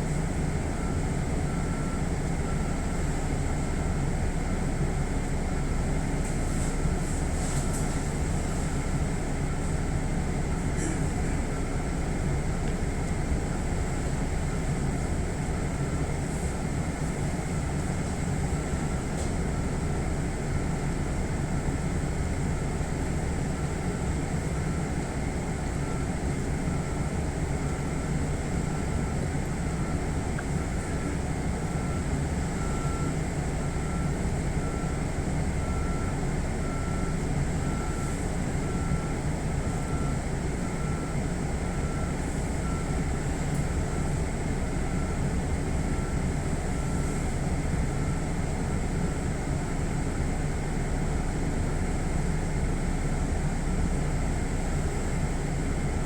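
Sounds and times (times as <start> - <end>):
train equipment hum and rumble: 0.0 - 56.0.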